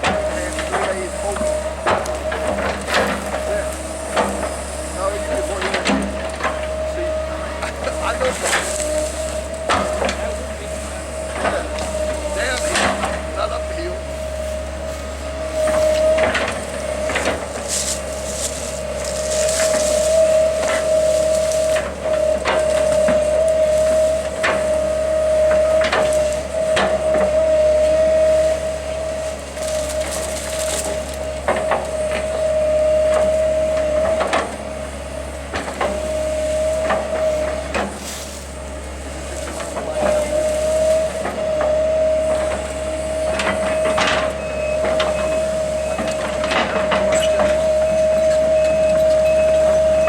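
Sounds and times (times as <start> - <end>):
heavy machinery whining: 0.0 - 50.0.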